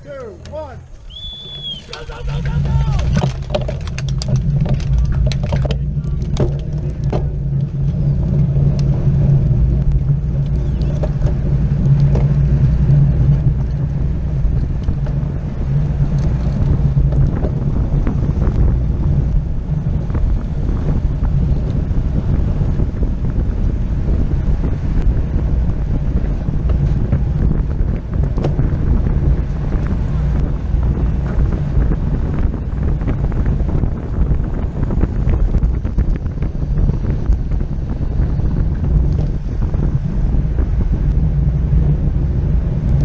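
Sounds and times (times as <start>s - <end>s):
bike tyres rumbling on asphalt: 0.0s - 43.0s
wind buffeting microphone: 0.0s - 43.0s.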